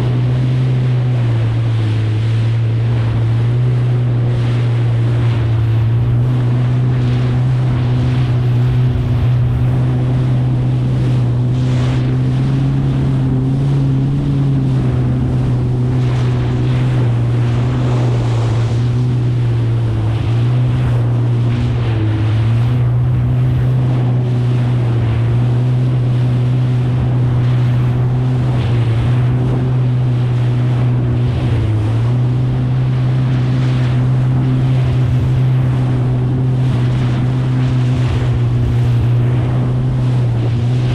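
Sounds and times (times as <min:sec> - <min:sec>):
jet ski engine running: 0:00.0 - 0:40.9
water slapping against hull: 0:00.0 - 0:40.9
wind buffeting microphone: 0:00.0 - 0:40.9.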